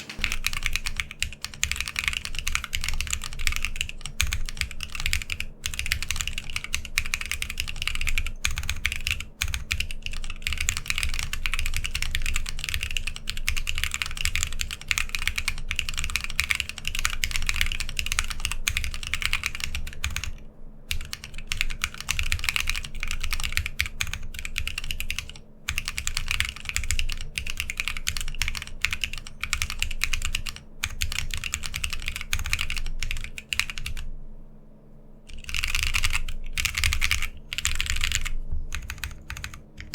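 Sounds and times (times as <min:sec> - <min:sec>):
mechanical keyboard typing: 0:00.0 - 0:34.0, 0:35.3 - 0:39.9.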